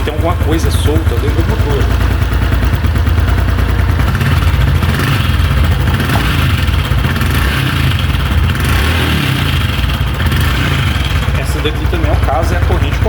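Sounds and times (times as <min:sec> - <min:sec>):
engine clattering: 0:00.0 - 0:13.0
motorcycle engine running: 0:00.0 - 0:13.0.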